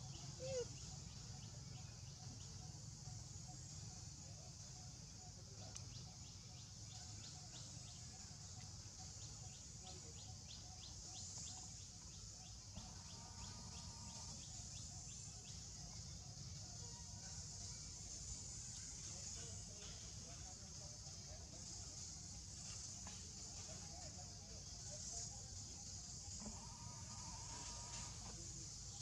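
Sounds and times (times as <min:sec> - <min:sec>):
insects hissing: 0:00.0 - 0:29.0.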